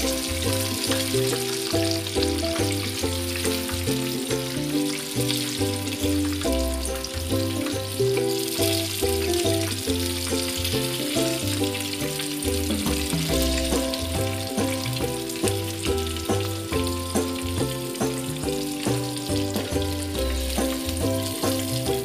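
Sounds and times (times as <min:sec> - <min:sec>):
background music with bassline and beat: 0:00.0 - 0:22.0
food sizzling in hot oil: 0:00.0 - 0:22.0.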